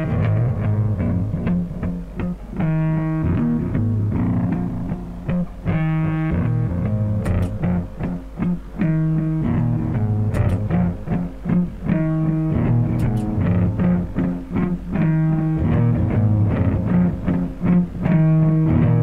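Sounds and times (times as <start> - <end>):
solo blues guitar: 0.0 - 19.0.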